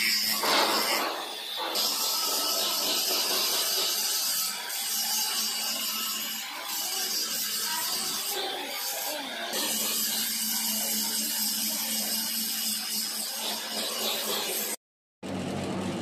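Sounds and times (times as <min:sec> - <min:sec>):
angle grinder cutting metal pipe: 0:00.0 - 0:14.8.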